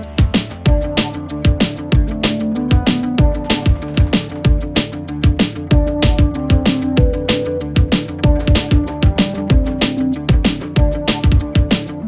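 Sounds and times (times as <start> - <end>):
electronic music with fast drum beat: 0.4 - 12.0.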